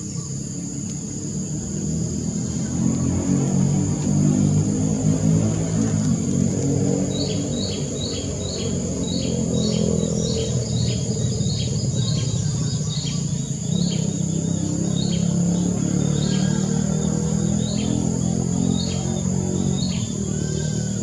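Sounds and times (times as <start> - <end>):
high insect whine: 0.0 - 21.0.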